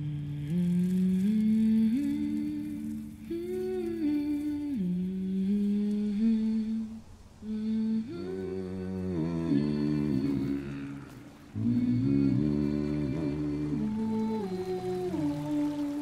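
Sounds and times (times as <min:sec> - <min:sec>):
person humming slow melody: 0:00.0 - 0:16.0.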